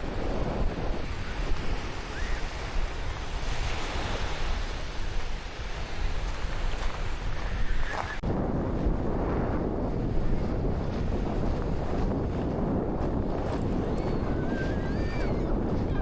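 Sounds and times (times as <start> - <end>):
surf washing onto sandy beach: 0.0 - 16.0
wind rumbling on the microphone: 0.0 - 16.0.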